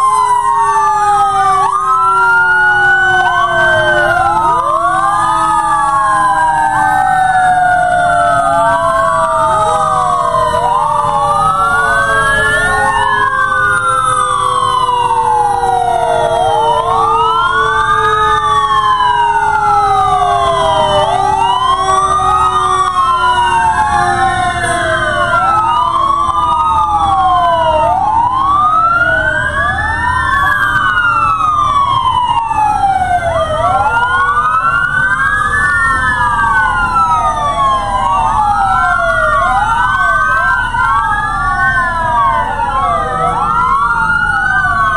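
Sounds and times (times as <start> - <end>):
fire engine sirens wailing: 0.0 - 44.9
fire truck engines rumbling: 0.0 - 44.9.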